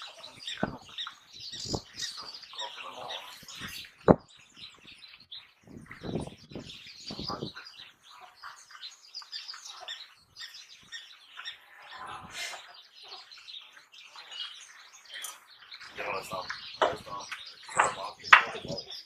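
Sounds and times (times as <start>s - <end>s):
birds chirping and twittering: 0.0s - 19.0s.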